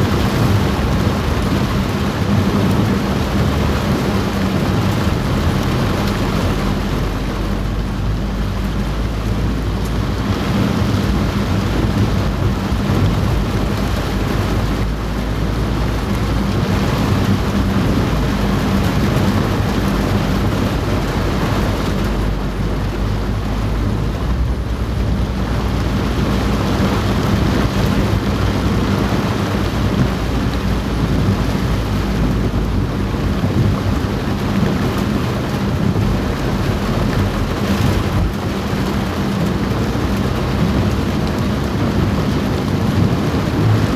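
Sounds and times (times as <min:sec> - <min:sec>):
heavy rain on car roof: 0:00.0 - 0:43.9.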